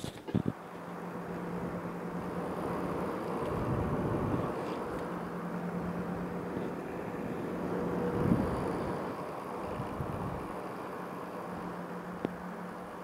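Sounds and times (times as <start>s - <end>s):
cooling fans humming: 0.0s - 13.0s.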